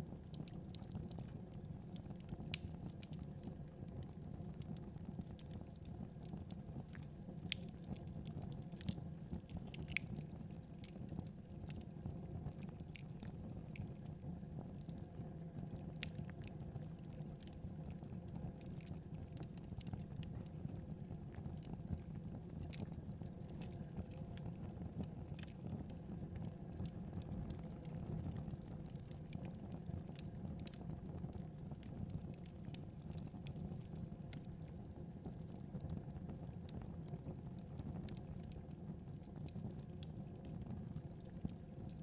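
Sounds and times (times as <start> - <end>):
wood fire crackling: 0.1 - 42.0.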